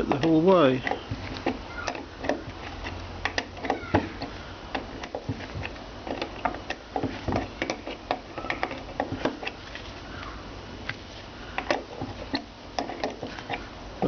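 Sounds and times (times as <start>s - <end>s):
spanner clicking on rusted nut: 0.0s - 13.7s.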